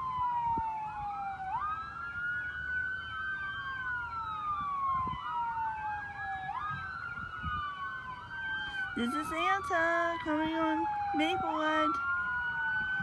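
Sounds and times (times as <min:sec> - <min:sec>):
fire truck siren wailing: 0:00.0 - 0:13.0
second siren sweeping faster: 0:00.0 - 0:13.0.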